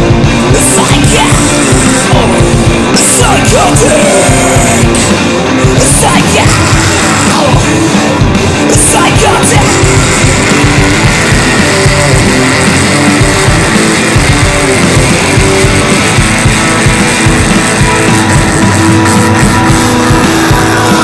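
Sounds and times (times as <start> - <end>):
thrash metal music: 0.0 - 21.0
harsh screamed vocal: 0.5 - 21.0.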